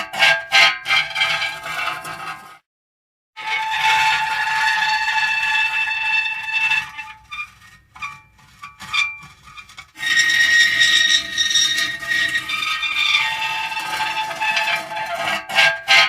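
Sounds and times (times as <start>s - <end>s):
metal squealing: 0.2s - 2.4s, 3.4s - 16.0s.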